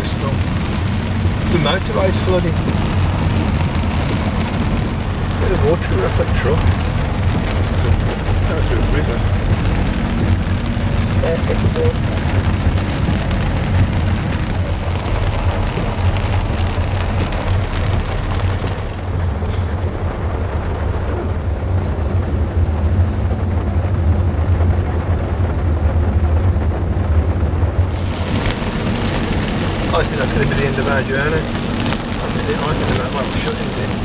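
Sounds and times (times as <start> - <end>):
rain and road spray hiss: 0.0 - 34.0
road and engine drone: 0.0 - 34.0.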